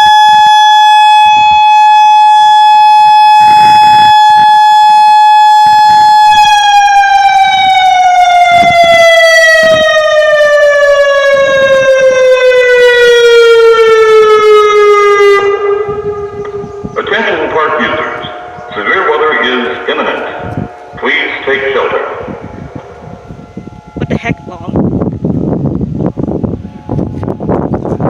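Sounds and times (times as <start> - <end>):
outdoor warning siren: 0.0 - 28.0.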